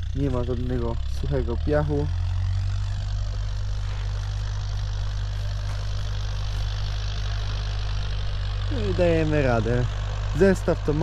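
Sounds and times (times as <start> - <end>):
tractor diesel engine humming: 0.0 - 11.0.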